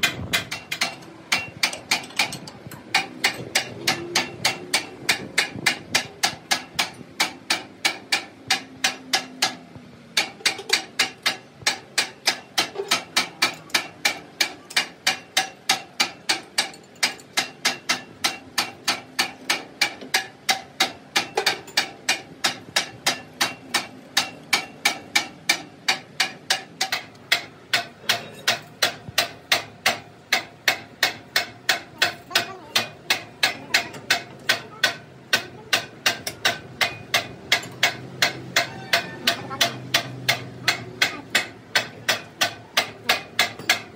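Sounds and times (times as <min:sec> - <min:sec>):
hammer striking metal: 0:00.0 - 0:43.9.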